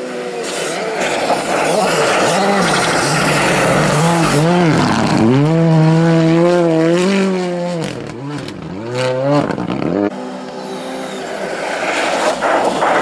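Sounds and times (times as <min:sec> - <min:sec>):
rally car engine at high revs: 0:00.0 - 0:13.0
tyres rushing through snow: 0:00.0 - 0:13.0.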